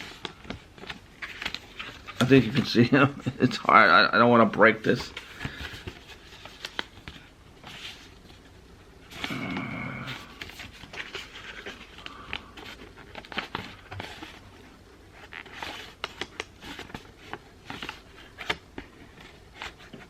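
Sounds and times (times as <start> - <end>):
cardboard packaging rustling: 0.0 - 3.0, 4.7 - 20.0.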